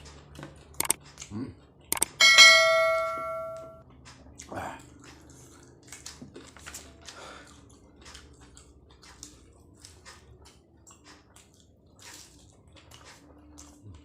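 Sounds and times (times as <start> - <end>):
person chewing with wet mouth sounds: 0.0 - 2.1, 3.8 - 14.0.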